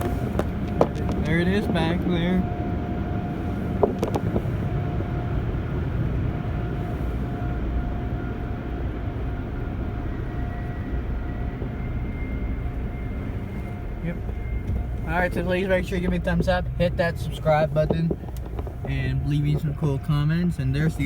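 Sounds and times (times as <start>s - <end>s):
car wash machinery drone: 0.0s - 21.0s
faint steady whine: 0.0s - 21.0s.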